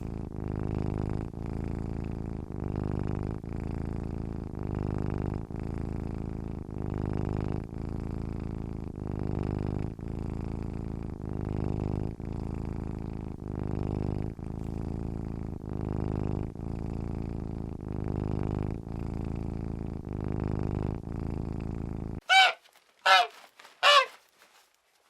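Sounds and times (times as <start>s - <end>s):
cat purring: 0.0s - 24.7s.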